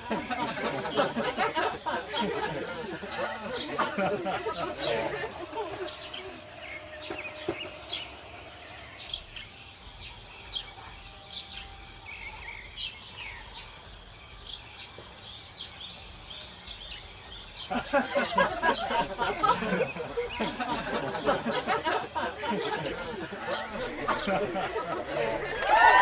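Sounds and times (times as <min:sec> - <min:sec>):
small birds chirping: 0:00.0 - 0:25.5.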